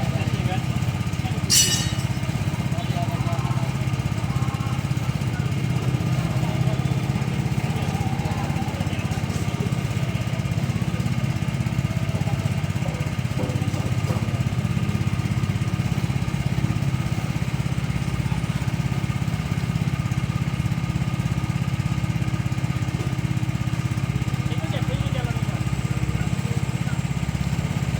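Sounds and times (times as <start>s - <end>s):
small engine chugging: 0.0s - 27.9s.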